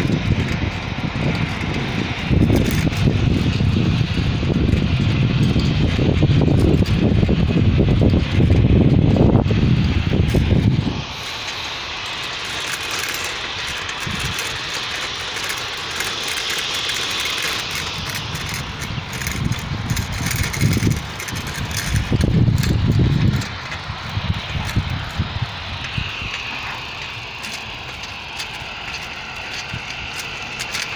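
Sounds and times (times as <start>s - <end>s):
wind rumbling on microphone: 0.0s - 30.9s.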